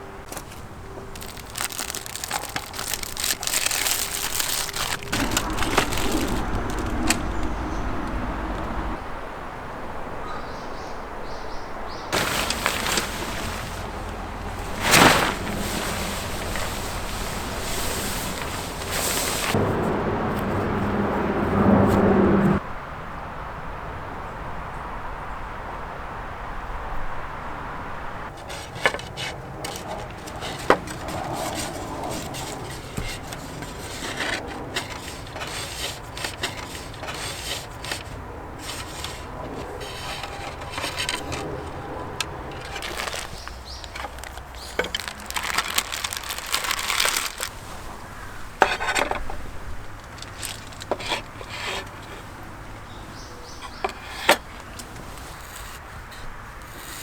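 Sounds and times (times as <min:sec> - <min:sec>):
wood scraping: 0:00.0 - 0:09.0, 0:12.1 - 0:22.6, 0:28.3 - 0:57.0.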